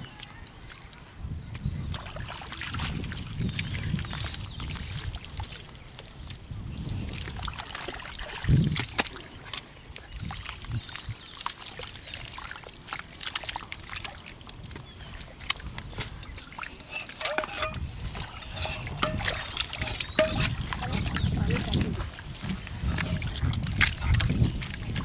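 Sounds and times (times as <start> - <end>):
squelching and splashing in mud: 0.0 - 25.0.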